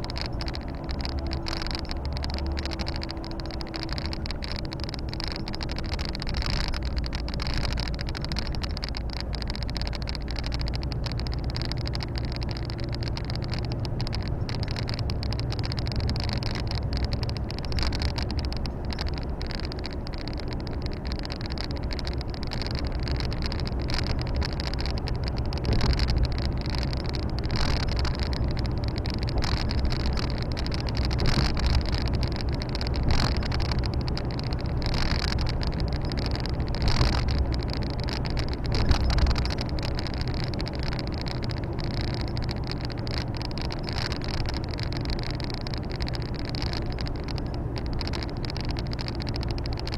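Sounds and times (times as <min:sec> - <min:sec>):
knocks and rattles: 0:00.0 - 0:49.9
truck diesel engine running: 0:00.0 - 0:49.9
tyre and road noise: 0:00.0 - 0:49.9.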